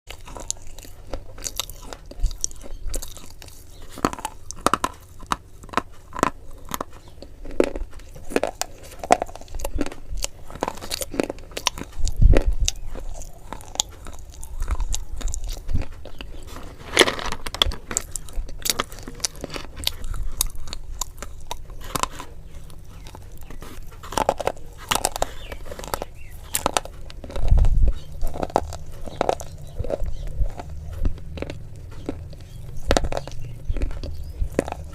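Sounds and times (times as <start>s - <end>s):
person chewing and crunching food: 0.1s - 34.9s.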